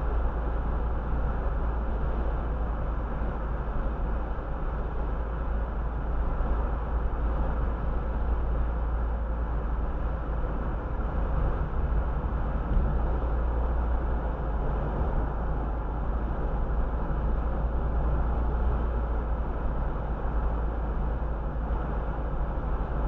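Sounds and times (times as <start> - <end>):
car road noise from inside: 0.0 - 23.0.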